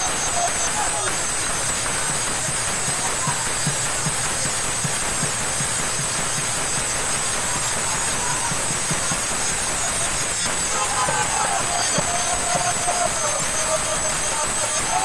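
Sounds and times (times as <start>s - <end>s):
hand cymbals clashing: 0.0s - 15.0s.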